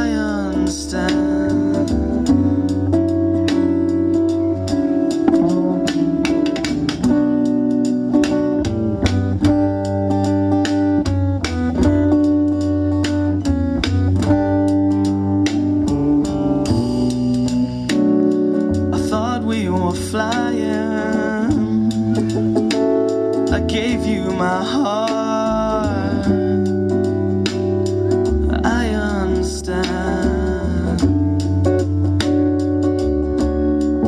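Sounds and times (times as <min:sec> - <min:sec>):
bass: 0:00.0 - 0:34.0
drums: 0:00.0 - 0:34.0
plucked and strummed guitar: 0:00.0 - 0:34.0.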